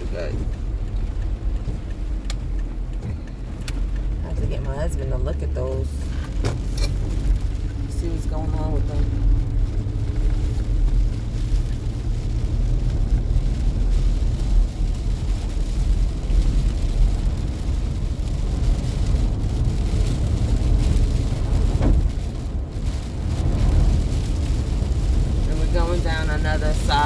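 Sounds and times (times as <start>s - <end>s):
tyre and engine rumble: 0.0s - 27.0s
water wash from wet road: 0.0s - 27.0s.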